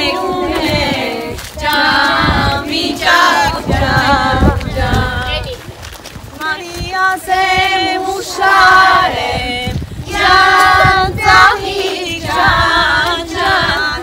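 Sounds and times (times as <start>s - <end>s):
women and children singing: 0.0s - 5.7s, 6.3s - 14.0s.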